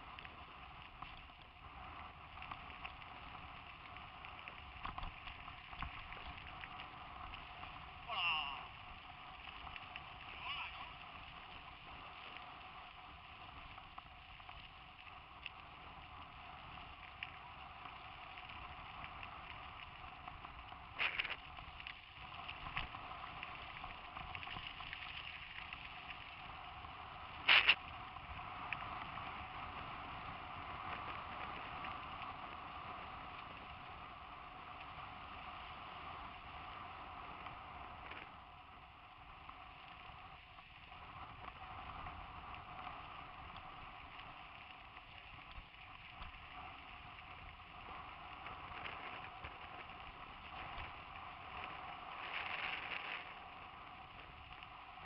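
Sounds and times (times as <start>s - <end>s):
bike tyres on gravel: 0.0s - 55.0s.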